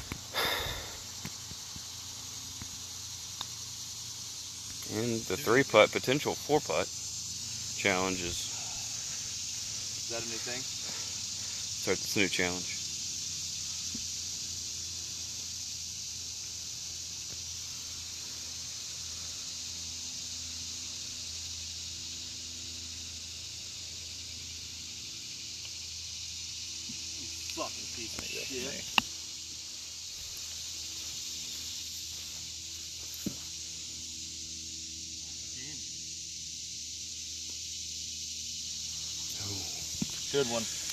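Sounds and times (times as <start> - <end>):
high insect chorus: 0.0 - 40.9.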